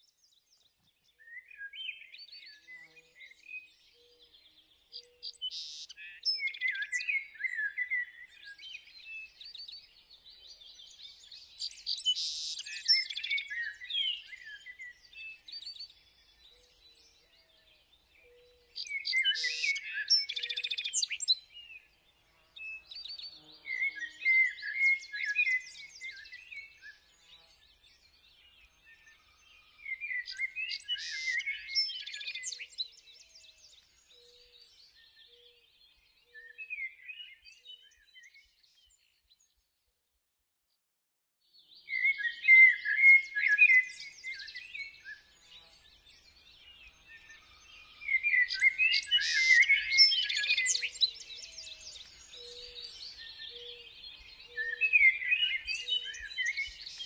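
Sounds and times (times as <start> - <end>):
songbirds chirping: 0.0 - 40.0, 41.5 - 57.0.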